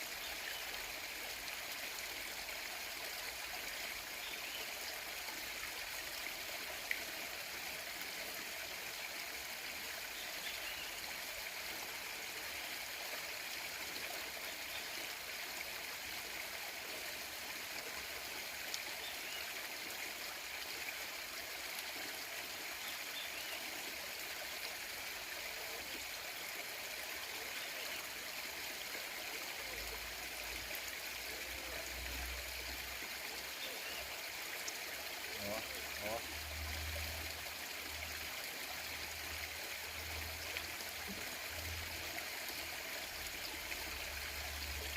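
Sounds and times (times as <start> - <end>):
stream trickling and gurgling: 0.0 - 44.9.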